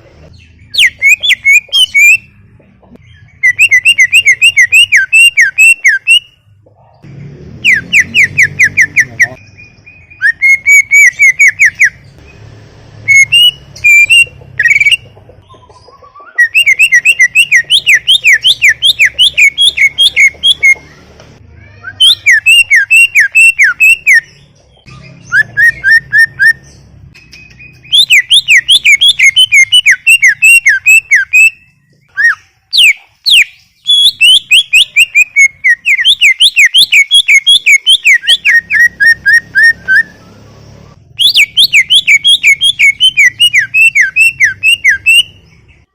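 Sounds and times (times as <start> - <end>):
bird singing whistled notes: 0.4 - 2.3, 3.0 - 6.4, 7.6 - 12.0, 13.0 - 20.8, 21.8 - 40.3, 41.2 - 45.9.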